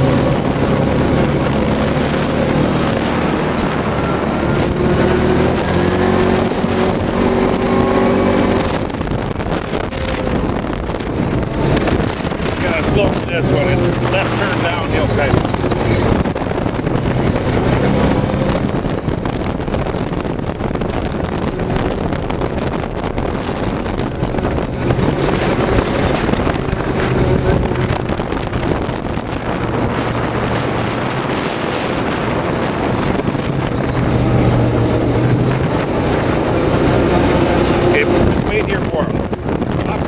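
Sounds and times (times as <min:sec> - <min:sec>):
off-road vehicle engine running: 0:00.0 - 0:40.0
wind buffeting microphone: 0:00.0 - 0:40.0
tyre noise: 0:02.0 - 0:40.0.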